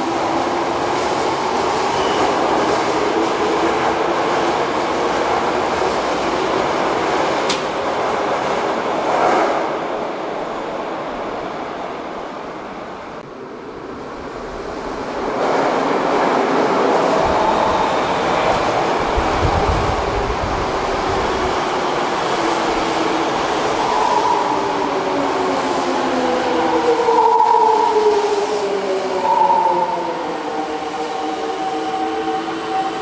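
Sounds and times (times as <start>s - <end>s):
subway train wheel rumble: 0.0s - 33.0s.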